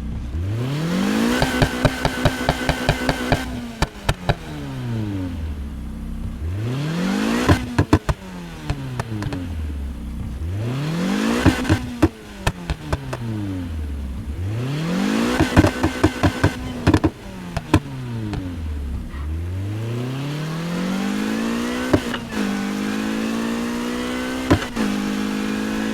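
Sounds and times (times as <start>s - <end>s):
car engine revving: 0.0s - 25.9s
exhaust crackles: 0.0s - 25.9s.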